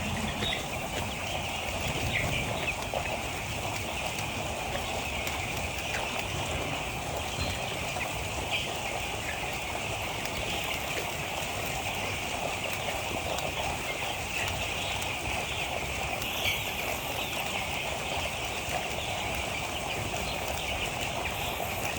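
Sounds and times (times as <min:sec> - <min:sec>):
chicks peeping: 0:00.0 - 0:21.9.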